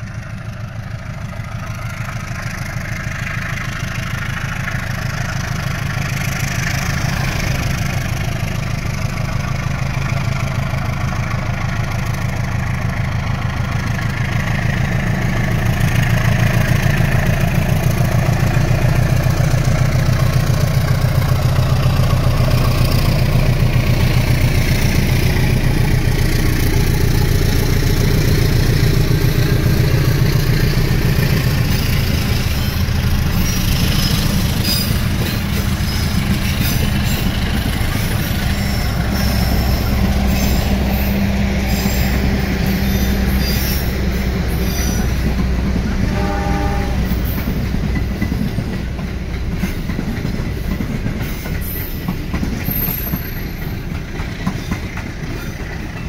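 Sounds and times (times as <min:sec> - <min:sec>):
train wheels clicking on rails: 0:00.0 - 0:46.1, 0:47.0 - 0:56.0
diesel locomotive engine droning: 0:00.0 - 0:56.0.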